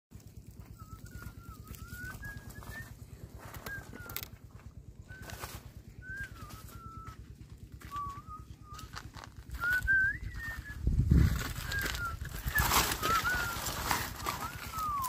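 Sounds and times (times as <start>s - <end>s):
footsteps in dry grass: 0.1s - 15.0s
bird whistled calls: 0.7s - 4.4s, 5.0s - 15.0s.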